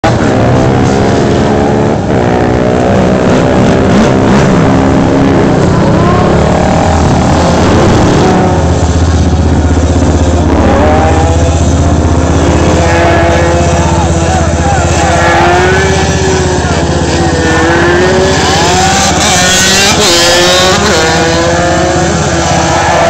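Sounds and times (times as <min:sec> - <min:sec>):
quad engines revving and passing: 0:00.0 - 0:23.0.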